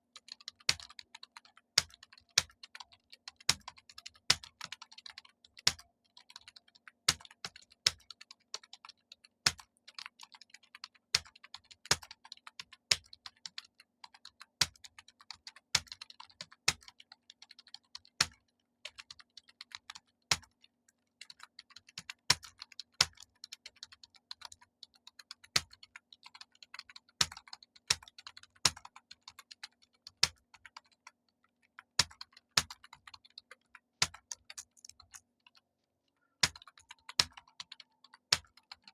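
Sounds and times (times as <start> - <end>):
rapid keyboard typing: 0.0 - 38.9.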